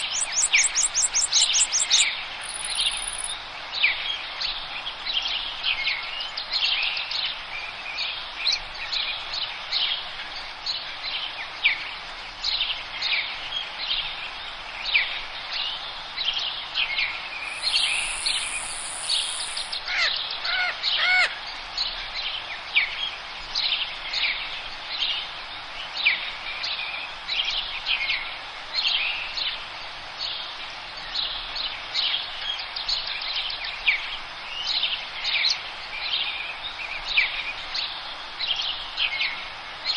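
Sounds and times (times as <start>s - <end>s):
songbirds chirping and twittering: 0.0s - 39.9s
steady background hiss: 0.0s - 39.9s.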